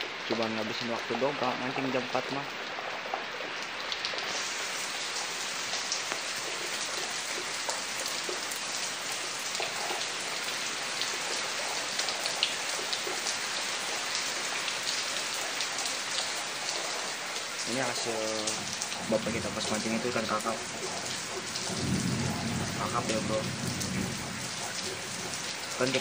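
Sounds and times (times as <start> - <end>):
heavy rain: 0.0 - 26.0
raindrops striking leaves: 0.0 - 26.0.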